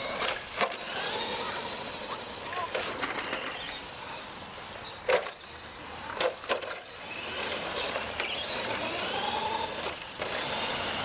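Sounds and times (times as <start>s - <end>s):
rc truck motors whining: 0.0s - 11.0s.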